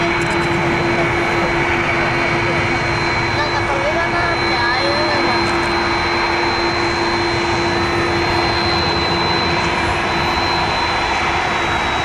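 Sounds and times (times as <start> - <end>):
jet engine roar and whine: 0.0 - 12.0.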